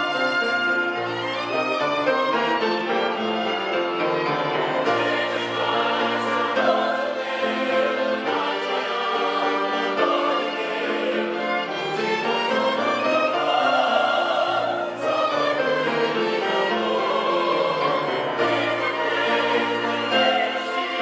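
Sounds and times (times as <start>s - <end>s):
church choir singing: 0.0s - 21.0s
string accompaniment: 0.0s - 21.0s.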